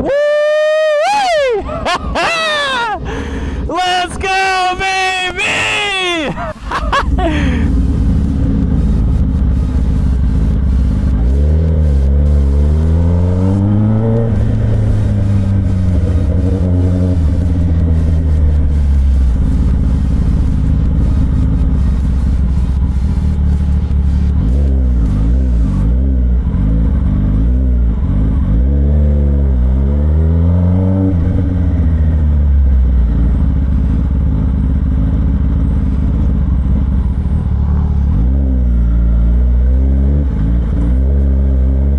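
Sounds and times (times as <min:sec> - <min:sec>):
motorcycle engine revving: 0:06.4 - 0:41.9.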